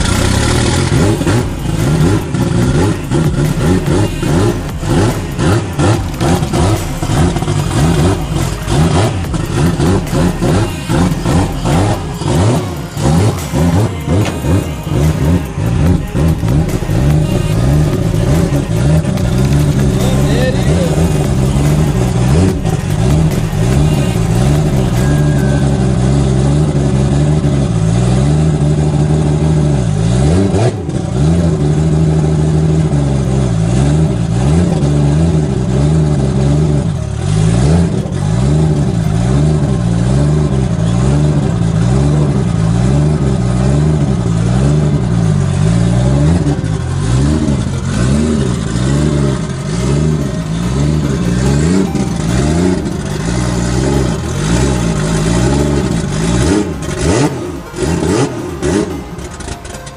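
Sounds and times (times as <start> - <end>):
car engine lumpy idle: 0.0 - 59.9.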